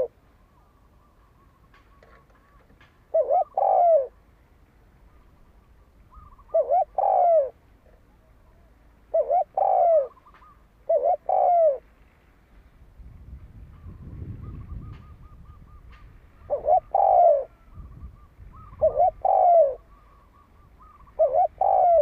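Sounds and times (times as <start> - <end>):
dove cooing: 0.0 - 4.2, 5.0 - 11.9, 13.8 - 22.0.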